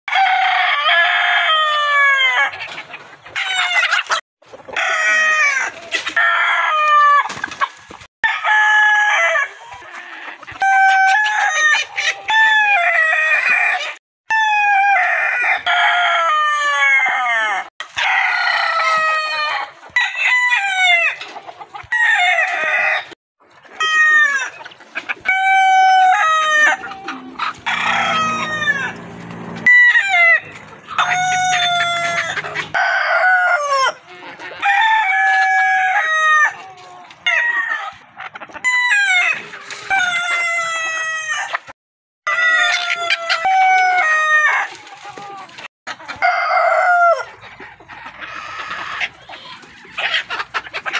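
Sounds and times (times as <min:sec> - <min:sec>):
roosters crowing: 0:00.1 - 0:07.4, 0:08.2 - 0:21.2, 0:21.8 - 0:41.7, 0:42.3 - 0:47.5.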